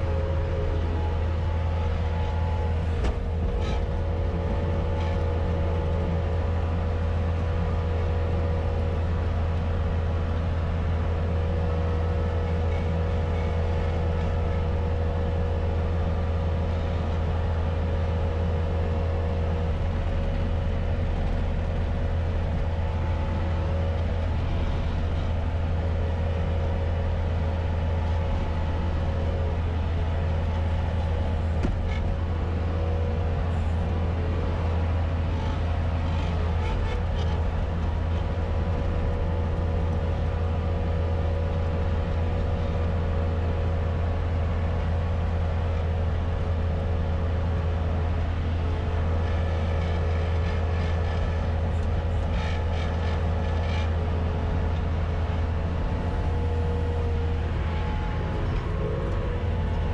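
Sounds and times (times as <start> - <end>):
diesel engine drone: 0.0 - 59.9.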